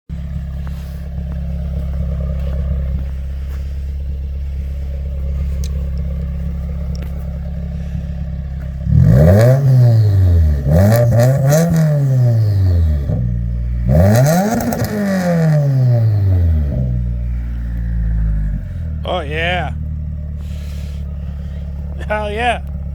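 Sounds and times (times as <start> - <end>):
car engine idling and revving: 0.1 - 22.9.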